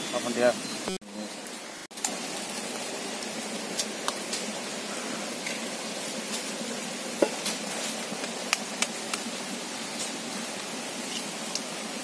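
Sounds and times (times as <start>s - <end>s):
gravy simmering hiss: 0.0s - 12.0s.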